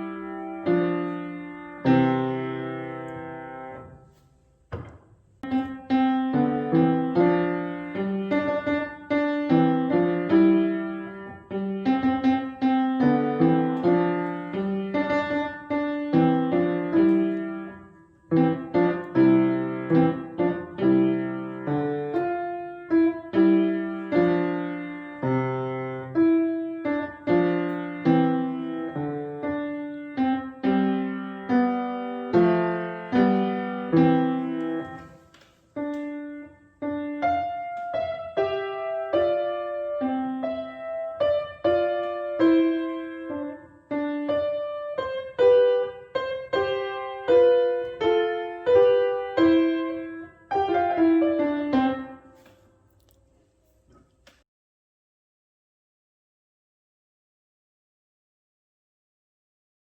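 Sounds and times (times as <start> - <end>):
solo piano piece: 0.0 - 54.3.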